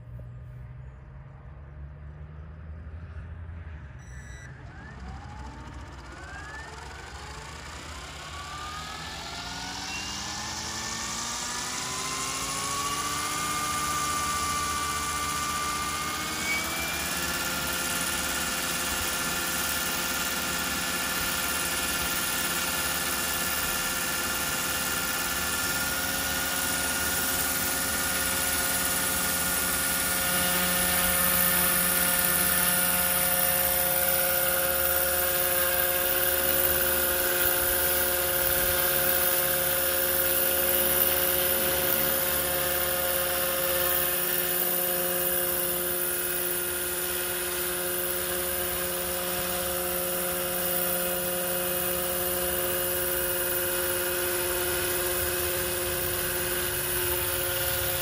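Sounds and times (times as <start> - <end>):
model helicopter rotors whining: 3.6 - 58.0.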